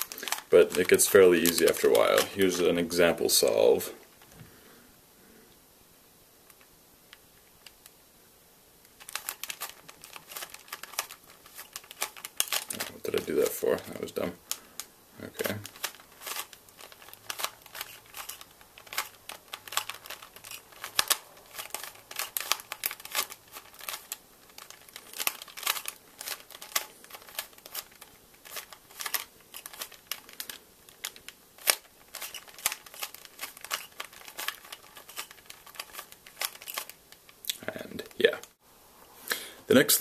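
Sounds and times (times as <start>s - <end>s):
puzzle cube clicking and rattling: 0.0s - 3.6s, 8.9s - 38.5s.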